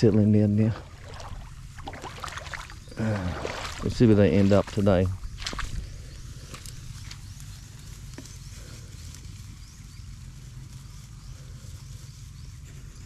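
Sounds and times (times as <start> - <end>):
rustling vegetation: 0.0 - 13.0.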